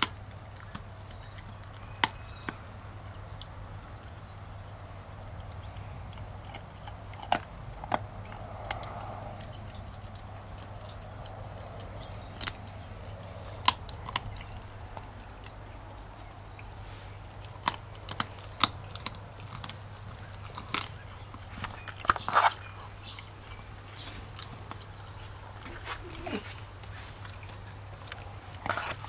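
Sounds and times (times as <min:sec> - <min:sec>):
puppy crunching bones: 0:00.0 - 0:29.0.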